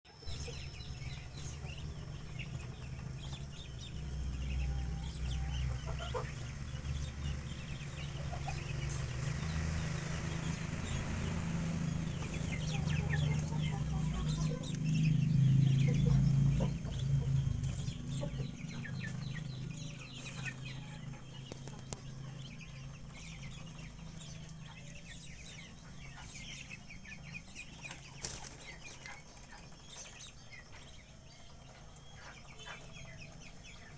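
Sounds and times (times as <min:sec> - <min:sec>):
chickens clucking: 0:00.1 - 0:33.9
low rumble: 0:00.3 - 0:29.5.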